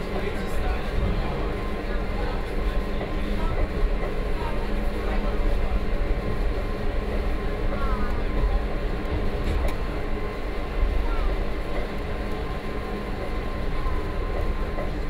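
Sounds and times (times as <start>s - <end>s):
faint motor whine: 0.0s - 15.0s
rack railway train rumbling: 0.0s - 15.0s.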